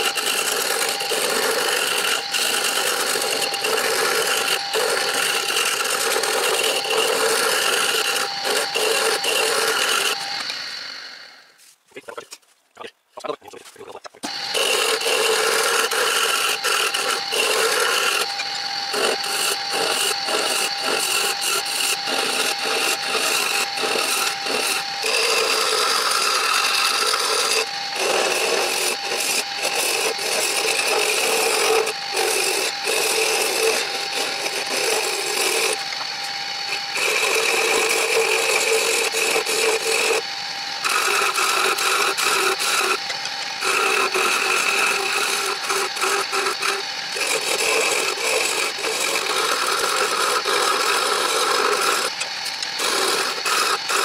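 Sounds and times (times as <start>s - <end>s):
wood lathe humming: 0.0s - 11.6s, 14.2s - 54.0s
file scraping spinning wood: 0.0s - 12.3s, 14.2s - 54.0s.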